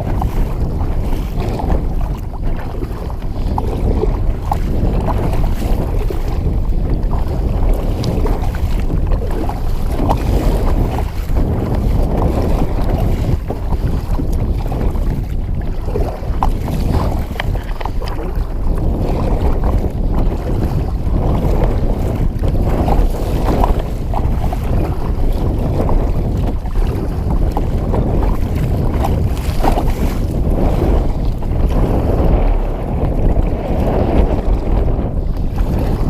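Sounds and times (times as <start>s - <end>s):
water splashing: 0.0s - 36.0s
wind blowing across microphone: 0.0s - 36.0s.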